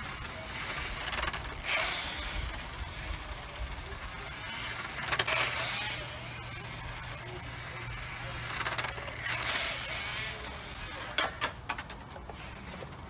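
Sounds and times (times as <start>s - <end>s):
rc car motor whining: 0.0s - 13.0s.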